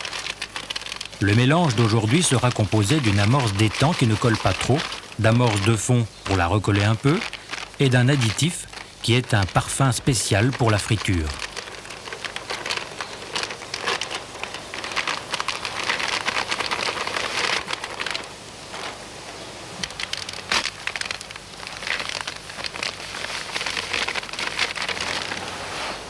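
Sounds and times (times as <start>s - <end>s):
groundbait pouring into a bucket: 0.0s - 19.0s, 19.8s - 25.6s
plastic packets crinkling: 0.0s - 26.0s.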